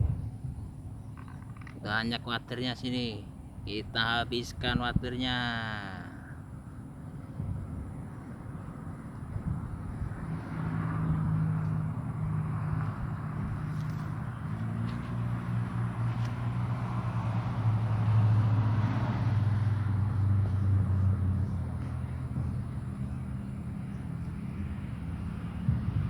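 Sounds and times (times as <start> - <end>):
motor engine humming: 0.0 - 26.0.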